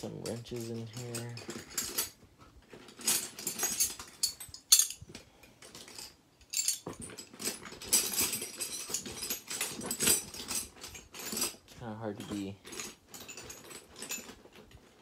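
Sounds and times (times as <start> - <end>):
wrenches clinking and rattling: 0.0 - 15.0.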